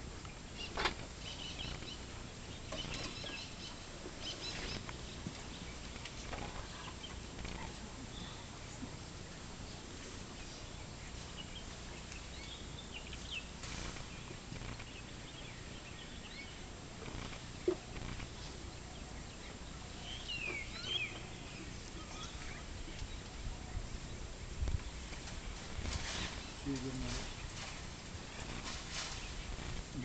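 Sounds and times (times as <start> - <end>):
birds chirping: 0.0 - 30.0
low steady hum: 0.0 - 30.0.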